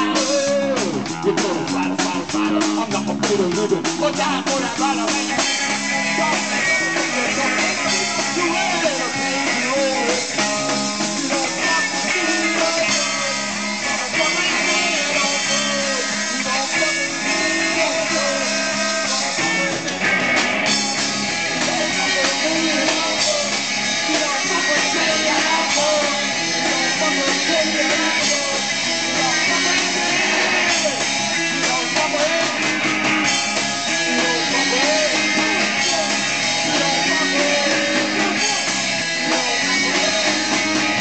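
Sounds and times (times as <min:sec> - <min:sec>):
drums: 0:00.0 - 0:41.0
electric guitar: 0:00.0 - 0:41.0
rock band playing live: 0:00.0 - 0:41.0.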